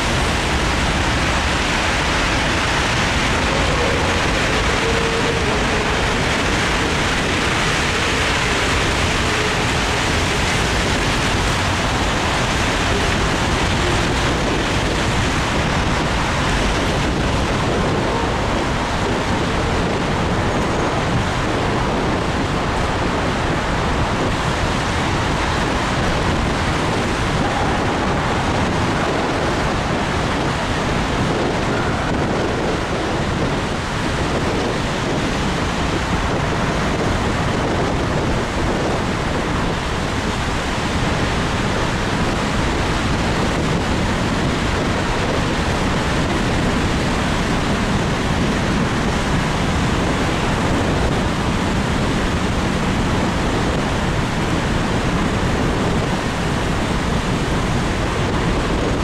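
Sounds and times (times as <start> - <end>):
car driving through tunnel: 0.0 - 59.0.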